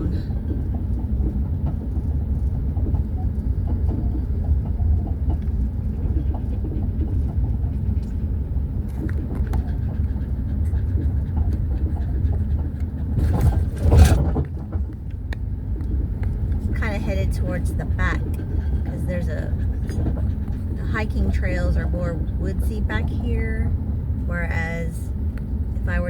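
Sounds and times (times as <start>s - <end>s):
car interior road rumble: 0.0s - 26.0s.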